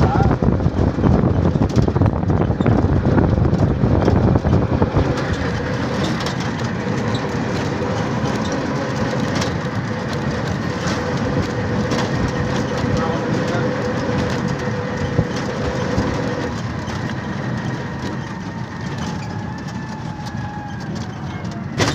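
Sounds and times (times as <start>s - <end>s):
rail clatter: 0.0s - 21.9s
train rumbling on track: 0.0s - 21.9s.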